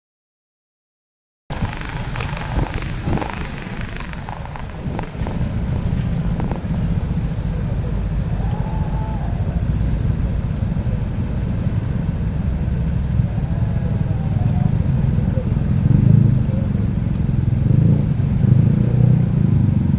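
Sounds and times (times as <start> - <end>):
road traffic rumble: 1.5 - 19.9.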